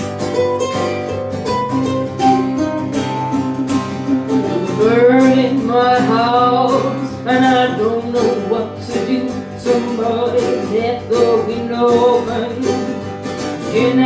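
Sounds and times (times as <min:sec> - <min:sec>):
sliding melody line: 0:00.0 - 0:13.0
acoustic guitar playing: 0:00.0 - 0:14.0.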